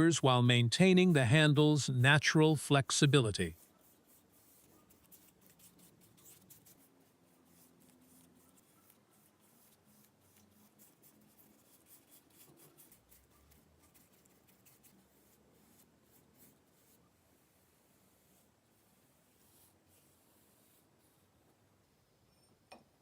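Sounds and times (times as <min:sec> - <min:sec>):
faint scratchy rubbing strokes: 0:00.2 - 0:21.6.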